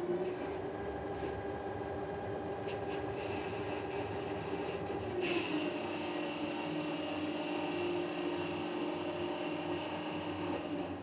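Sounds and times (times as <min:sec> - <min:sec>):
lathe machine hum with whine: 0:00.0 - 0:11.0.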